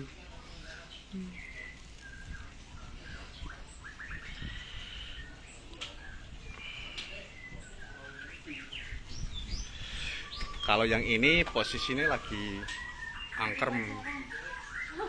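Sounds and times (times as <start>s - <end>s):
songbirds chirping and whistling: 0.0s - 15.0s.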